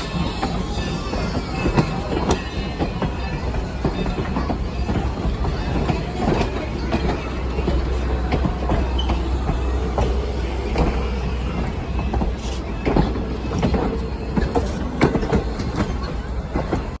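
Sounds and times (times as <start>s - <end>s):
train rumbling along track: 0.0s - 17.0s
wheels clanking over rail joints: 0.0s - 17.0s.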